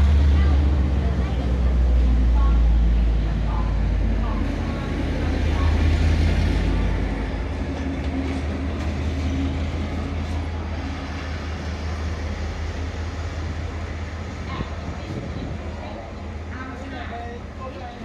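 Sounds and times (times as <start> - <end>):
locomotive rumbling: 0.0 - 18.0.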